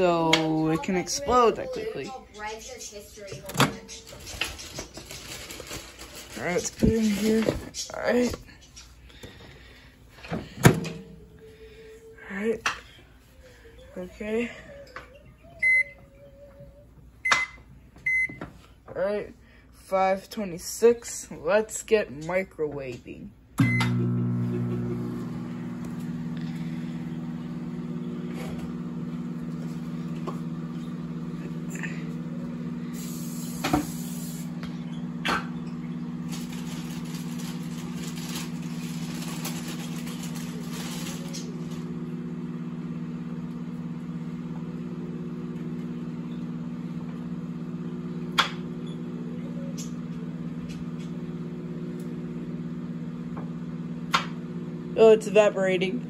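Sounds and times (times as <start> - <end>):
microwave oven humming: 0.0 - 22.5, 23.2 - 56.0.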